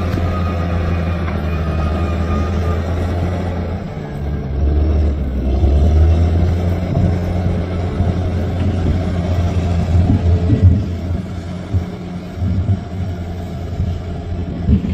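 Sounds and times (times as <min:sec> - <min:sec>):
bulldozer diesel engine: 0:00.0 - 0:14.9.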